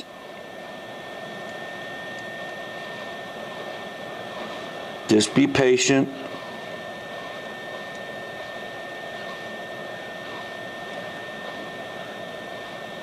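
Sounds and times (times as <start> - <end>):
hot-air station hissing: 0.0 - 13.0
thin high whine: 0.0 - 13.0.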